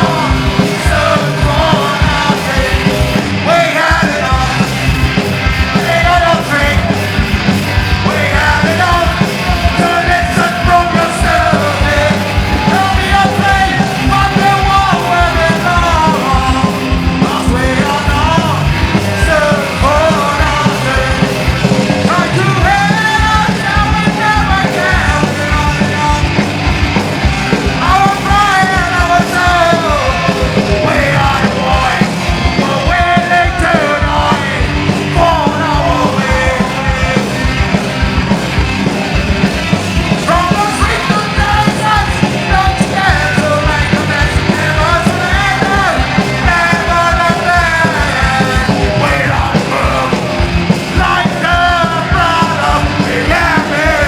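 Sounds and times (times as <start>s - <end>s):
driving drums: 0.0s - 54.0s
punk rock band playing live: 0.0s - 54.0s
shouted sung vocals: 0.0s - 54.0s.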